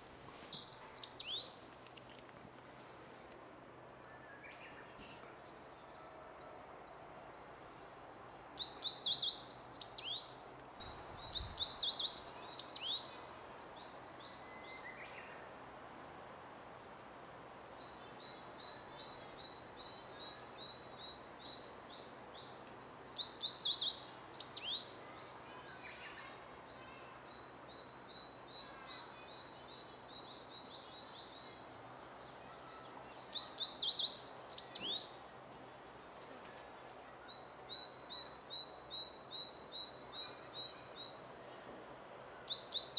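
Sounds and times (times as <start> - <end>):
songbird song phrases: 0.0 - 2.3, 3.9 - 15.6, 17.4 - 42.9.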